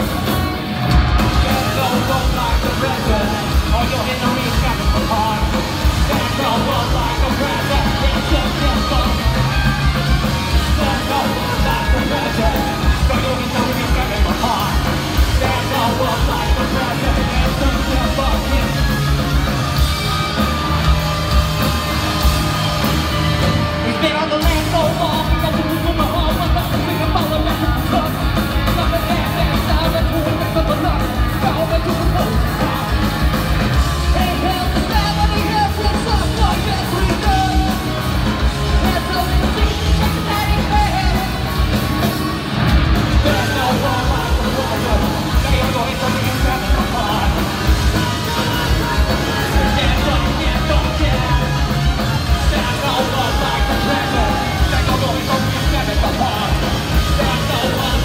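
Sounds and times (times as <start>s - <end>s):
rock band playing live: 0.0s - 58.0s
yelled singing: 0.0s - 58.0s.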